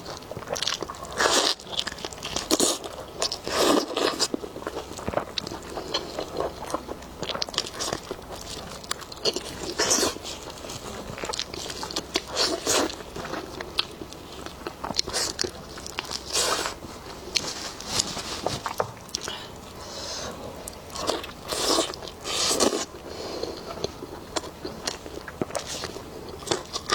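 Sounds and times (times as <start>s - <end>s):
biting and chewing meat: 0.0s - 26.9s.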